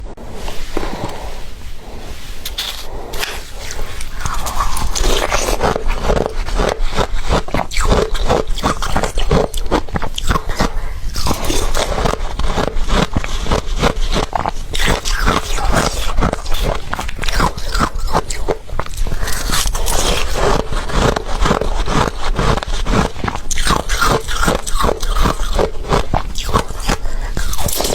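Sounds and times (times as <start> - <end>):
ice crunching being chewed: 0.7 - 27.9.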